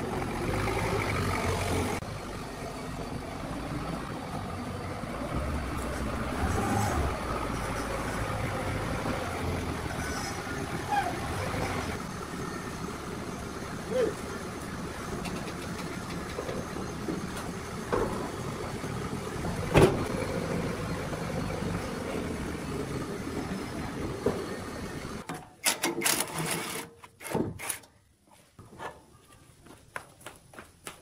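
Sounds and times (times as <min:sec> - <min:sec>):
forklift engine running: 0:00.0 - 0:25.3.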